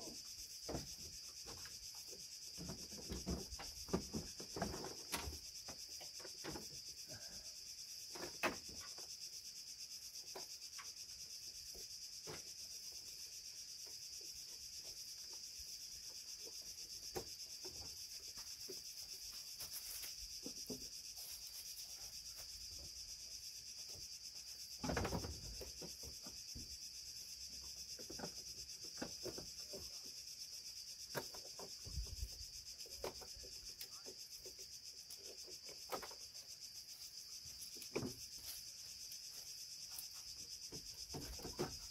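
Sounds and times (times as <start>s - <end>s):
insects chorus: 0.0s - 41.9s.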